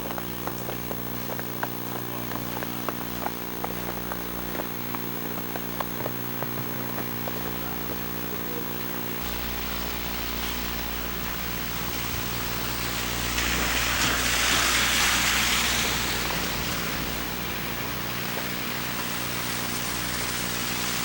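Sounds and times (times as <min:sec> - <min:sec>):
car tyres hissing on snow: 0:00.0 - 0:21.0
steady electrical buzz: 0:00.0 - 0:21.0.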